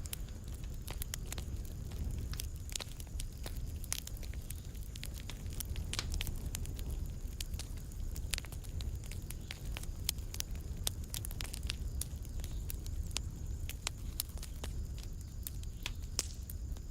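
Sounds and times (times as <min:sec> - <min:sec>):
fire crackling in a fireplace: 0:00.0 - 0:16.9.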